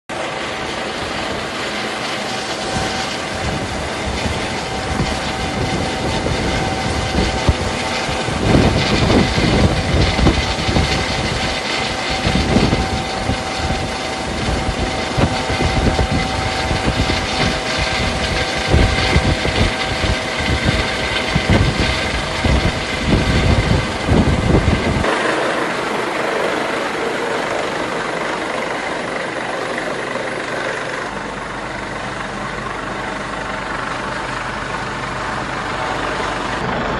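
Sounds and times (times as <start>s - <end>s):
heavy low rumbling: 0.1s - 36.9s
ship engine hum: 0.1s - 36.9s.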